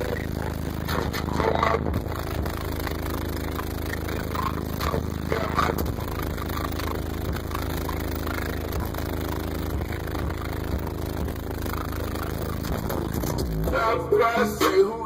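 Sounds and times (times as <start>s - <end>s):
subwoofers playing deep bass: 0.0s - 15.0s.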